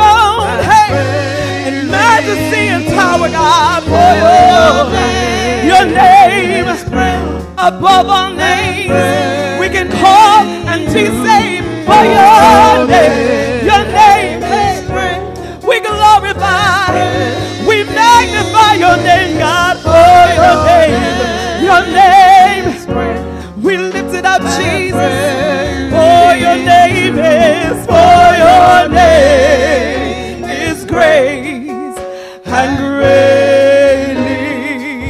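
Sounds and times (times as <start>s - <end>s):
instrumental backing with bass: 0.0s - 35.0s
women singing gospel song: 0.0s - 35.0s.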